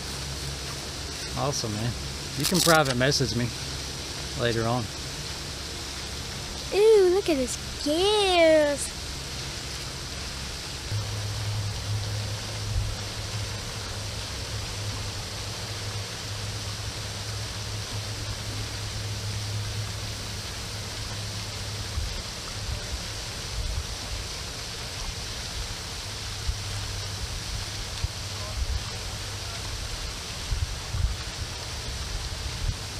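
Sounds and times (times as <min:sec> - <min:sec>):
fountain spraying water: 0:00.0 - 0:32.9
low steady hum: 0:00.0 - 0:32.9.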